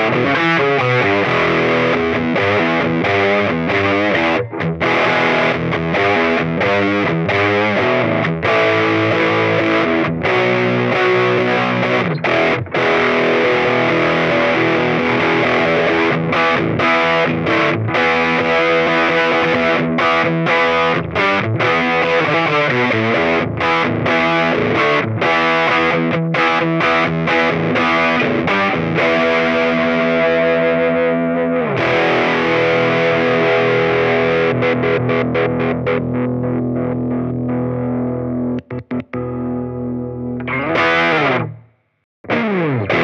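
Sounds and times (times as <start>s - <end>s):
distorted electric guitar riff: 0.0s - 43.0s.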